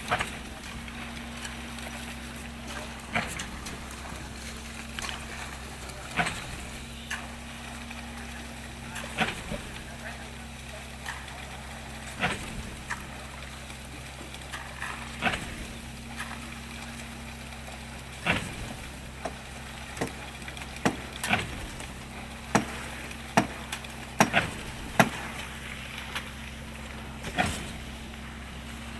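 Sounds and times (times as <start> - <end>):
wet concrete slaps and knocks: 0.0 - 17.4, 18.2 - 28.3
concrete mixer pump droning: 0.0 - 28.9.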